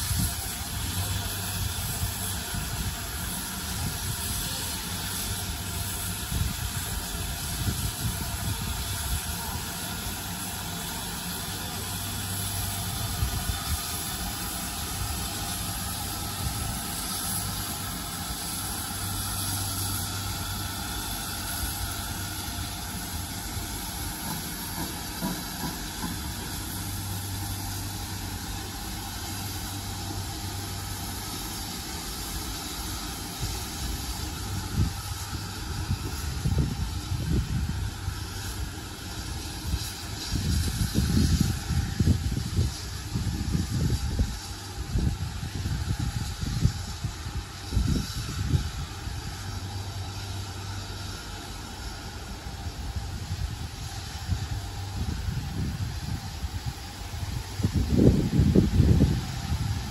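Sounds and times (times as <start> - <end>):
steam locomotive hissing and rumbling: 0.0 - 59.9.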